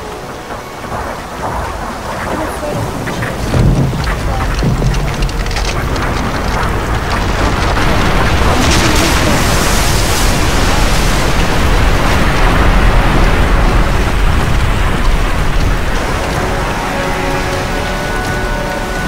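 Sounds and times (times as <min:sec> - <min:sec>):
churning seawater and breaking waves: 0:00.0 - 0:19.0.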